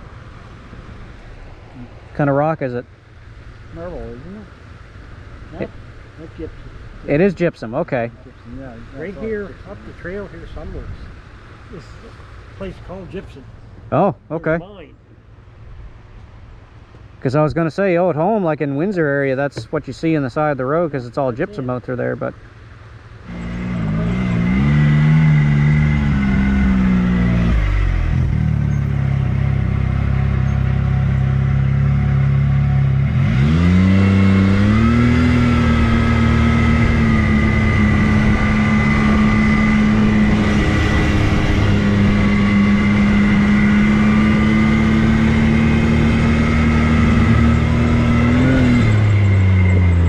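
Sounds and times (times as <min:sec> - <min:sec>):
off-road vehicle engine accelerating: 0:00.0 - 0:14.9, 0:18.2 - 0:50.0.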